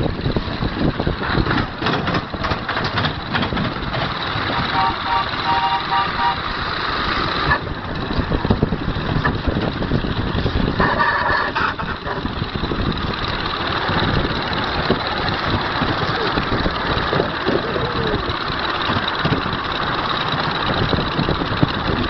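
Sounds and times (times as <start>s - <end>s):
steam exhaust beats: 0.0s - 22.0s
wheel and rail clatter: 0.0s - 22.0s.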